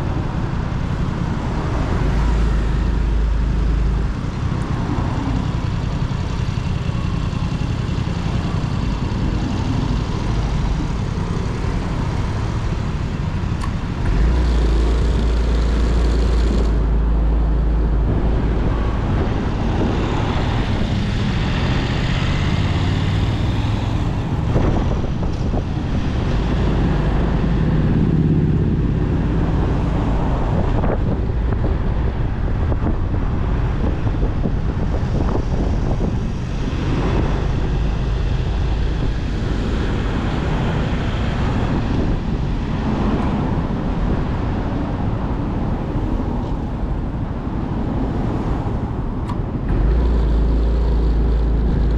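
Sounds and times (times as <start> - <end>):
motorcycle engine rumble: 0.0 - 51.9.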